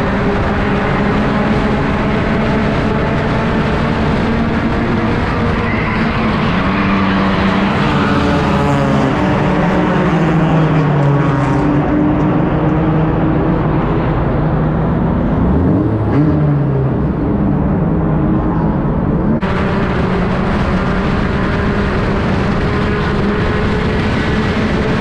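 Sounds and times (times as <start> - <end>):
race car engine: 0.0 - 25.0
steady rush of noise: 0.0 - 25.0.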